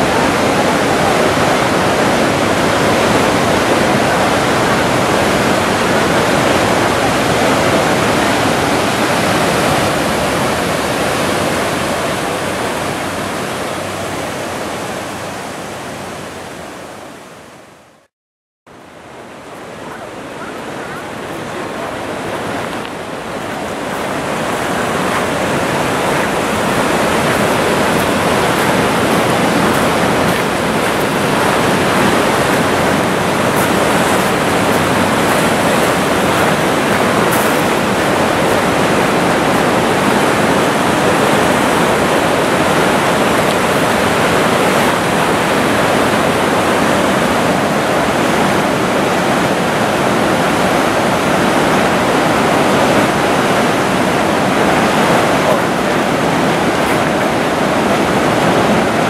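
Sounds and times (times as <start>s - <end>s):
river rushing through rapids: 0.0s - 18.1s, 18.7s - 59.0s.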